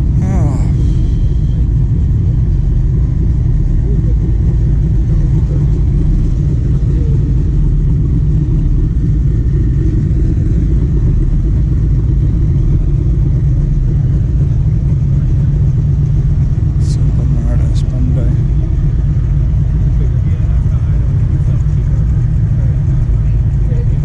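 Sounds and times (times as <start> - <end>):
low rumble of car traffic: 0.0 - 24.0.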